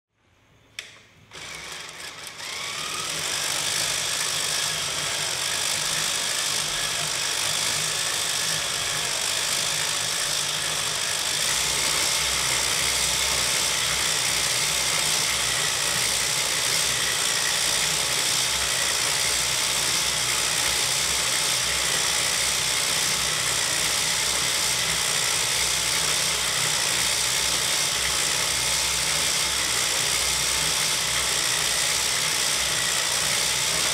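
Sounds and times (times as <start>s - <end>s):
knitting machine whirring: 0.8s - 33.9s.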